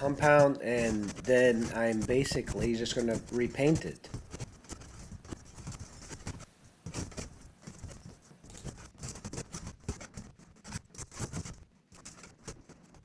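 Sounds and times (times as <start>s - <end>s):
paint scraper scraping ceiling: 0.0s - 13.0s.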